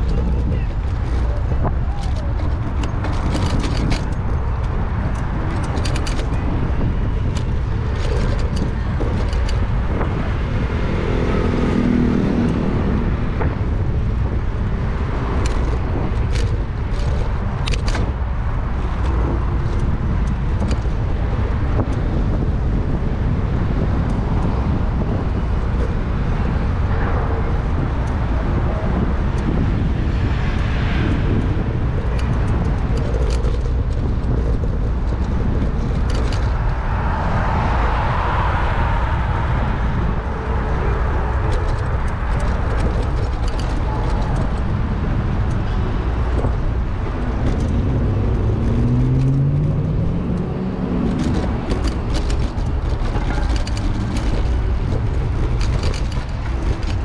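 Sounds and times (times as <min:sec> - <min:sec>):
street traffic noise: 0:00.0 - 0:57.0
wind rumble on microphone: 0:00.0 - 0:57.0.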